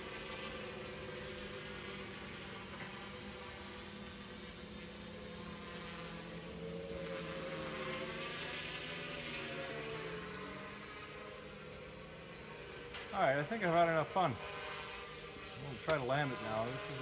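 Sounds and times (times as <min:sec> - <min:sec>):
quadcopter motors whirring: 0:00.0 - 0:17.0.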